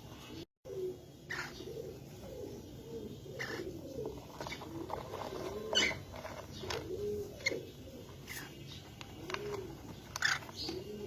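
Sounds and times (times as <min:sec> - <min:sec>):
pigeons cooing: 0:00.3 - 0:11.0.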